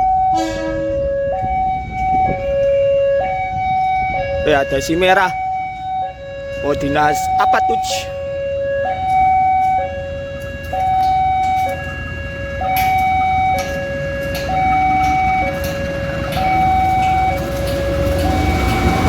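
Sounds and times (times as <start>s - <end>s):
two-tone level crossing alarm: 0.0s - 19.0s.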